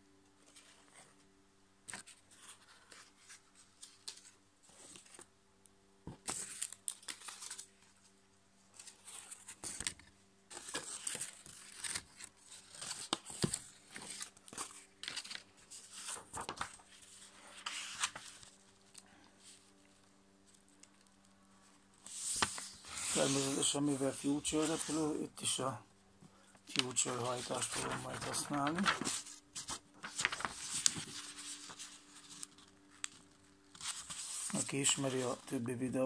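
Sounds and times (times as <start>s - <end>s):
paper rustling and crinkling: 1.9s - 5.3s, 6.1s - 25.7s, 26.5s - 35.7s.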